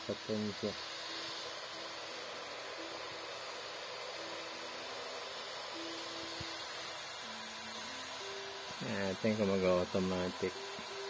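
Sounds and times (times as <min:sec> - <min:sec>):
electric kettle hissing: 0:00.0 - 0:11.0
faint distant music: 0:00.0 - 0:11.0.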